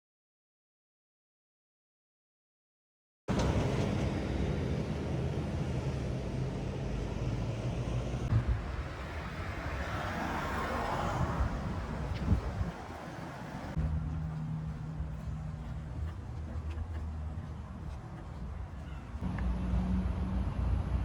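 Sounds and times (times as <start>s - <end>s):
distant traffic rumble: 3.3s - 21.0s.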